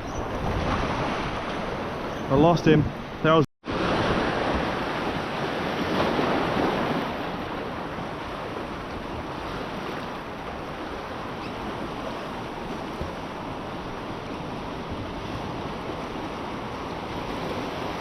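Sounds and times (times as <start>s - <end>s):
ocean waves washing in: 0.2s - 18.0s.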